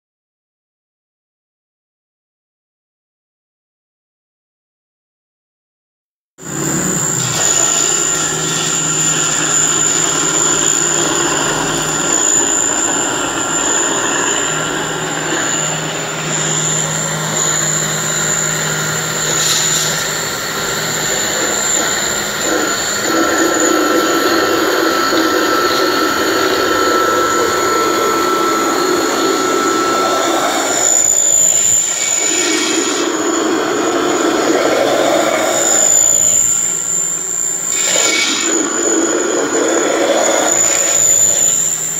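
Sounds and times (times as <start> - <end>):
grinding machine running: 6.4 - 41.9
high whine: 6.4 - 41.9.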